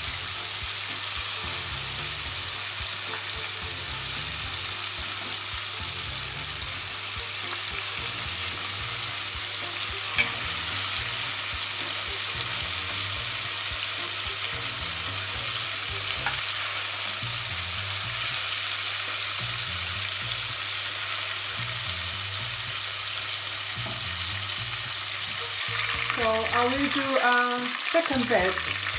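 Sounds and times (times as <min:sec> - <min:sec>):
chicken deep-frying in oil: 0:00.0 - 0:28.9.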